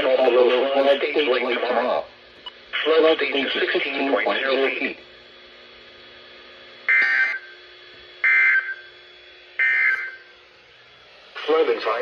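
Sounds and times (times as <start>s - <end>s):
low steady hum: 0.0s - 12.0s
receiver hiss: 0.0s - 12.0s.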